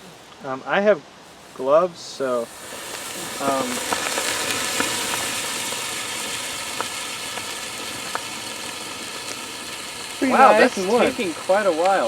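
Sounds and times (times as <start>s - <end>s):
burning hiss and sizzle: 0.0s - 12.0s
sharp pops and crackles: 1.3s - 12.0s.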